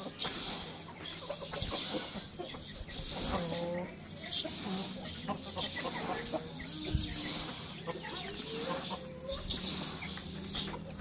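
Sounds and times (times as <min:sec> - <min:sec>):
chickens clucking: 0:00.0 - 0:11.0
grain rustling in steel bowl: 0:00.0 - 0:11.0.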